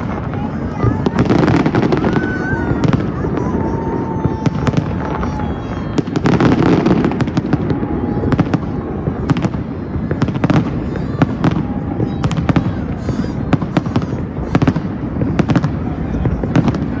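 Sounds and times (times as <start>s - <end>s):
crowd voices: 0.0s - 17.0s
fireworks bangs and crackles: 0.0s - 17.0s.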